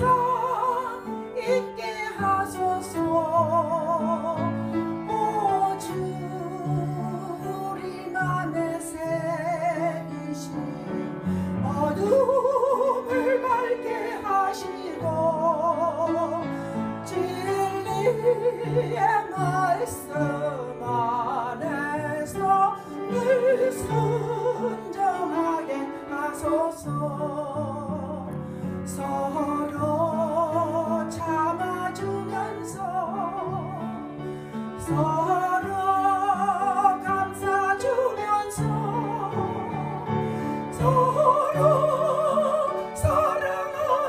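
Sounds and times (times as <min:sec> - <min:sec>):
woman singing operatically: 0:00.0 - 0:16.5, 0:17.1 - 0:28.3, 0:28.9 - 0:34.0, 0:34.8 - 0:44.0
instrumental accompaniment: 0:00.0 - 0:44.0.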